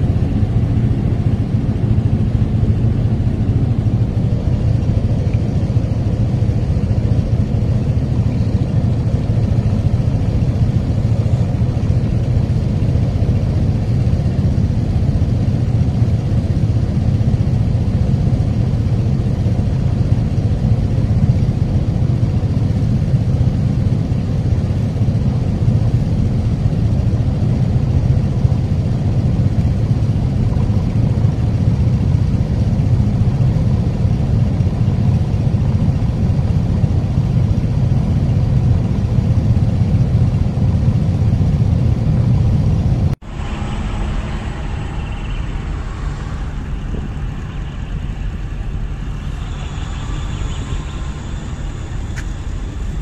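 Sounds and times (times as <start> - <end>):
low engine rumble: 0.0 - 53.0.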